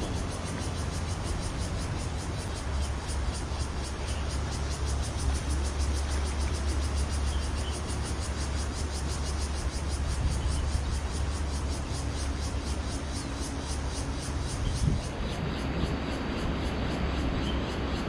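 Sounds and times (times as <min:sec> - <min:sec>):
river flowing: 0:00.0 - 0:18.0.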